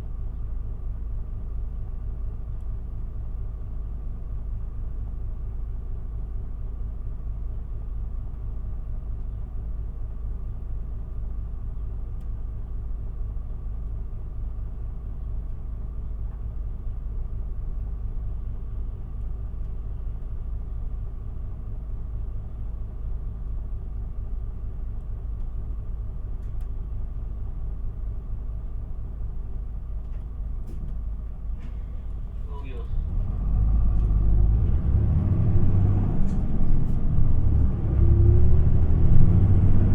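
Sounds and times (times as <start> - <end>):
bus diesel engine running: 0.0 - 39.9
low rumble: 0.0 - 39.9.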